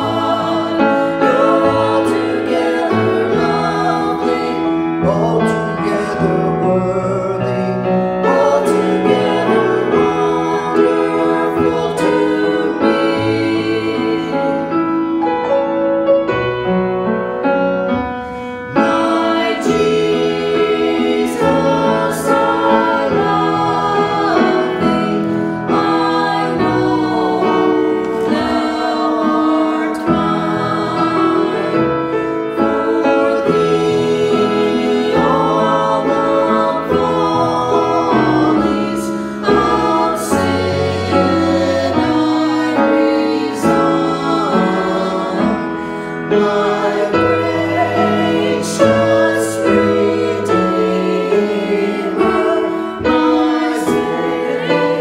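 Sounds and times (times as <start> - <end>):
group singing: 0.0 - 15.6, 18.2 - 55.0
grand piano: 0.0 - 55.0.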